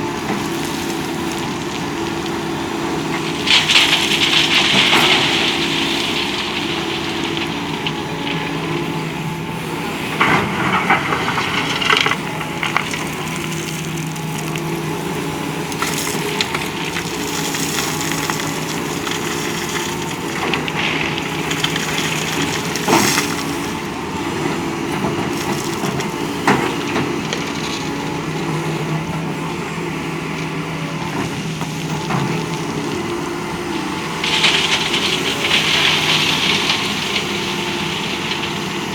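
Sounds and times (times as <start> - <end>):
diesel excavator engine running: 0.0 - 38.9
gravel crunching and clattering: 0.0 - 38.9.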